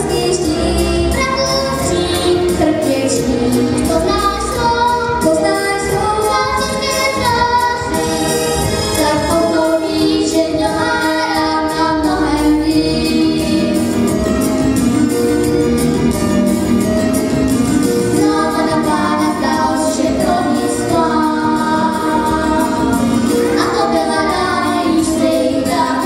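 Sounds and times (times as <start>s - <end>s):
two girls singing duet: 0.0s - 8.2s, 8.9s - 13.9s, 18.1s - 26.0s
backing music with steady beat: 0.0s - 26.0s.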